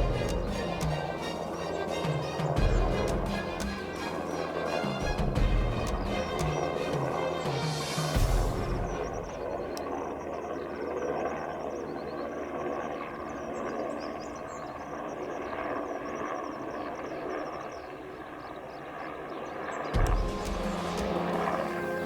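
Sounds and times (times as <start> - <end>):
distant aircraft engine drone: 0.0 - 22.0.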